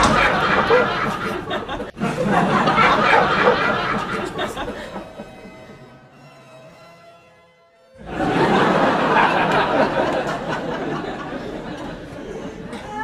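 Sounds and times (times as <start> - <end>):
people laughing: 0.0 - 6.1, 8.0 - 13.0.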